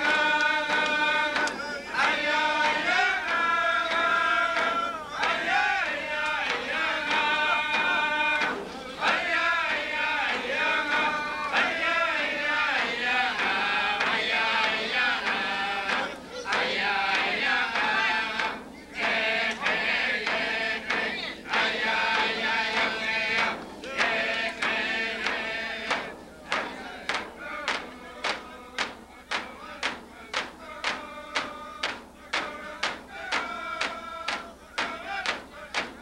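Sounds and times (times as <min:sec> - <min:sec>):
frame drums beating: 0:00.0 - 0:36.0
group singing in unison: 0:00.0 - 0:36.0.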